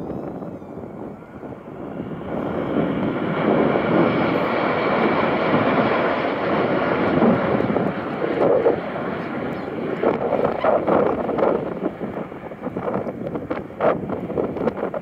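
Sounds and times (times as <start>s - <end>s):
jets passing overhead: 0.0s - 15.0s.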